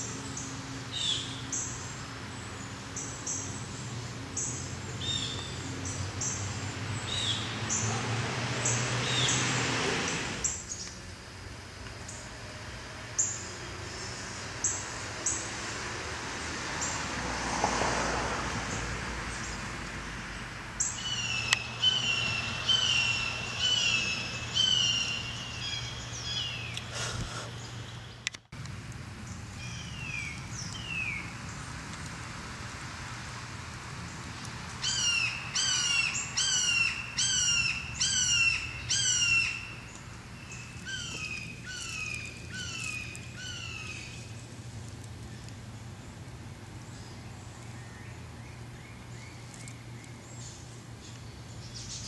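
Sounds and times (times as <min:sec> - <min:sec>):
songbird singing: 0:00.0 - 0:11.1, 0:11.8 - 0:12.4, 0:13.1 - 0:15.8, 0:18.6 - 0:32.1, 0:34.0 - 0:52.0.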